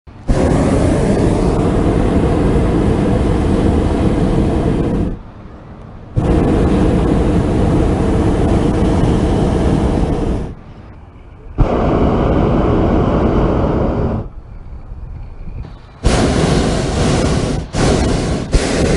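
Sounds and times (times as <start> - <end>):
propane burner blasts: 0.1 - 18.9.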